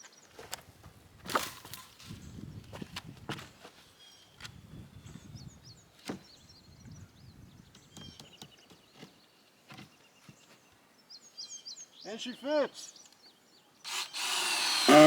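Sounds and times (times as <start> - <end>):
birds chirping faintly: 2.2 - 15.0.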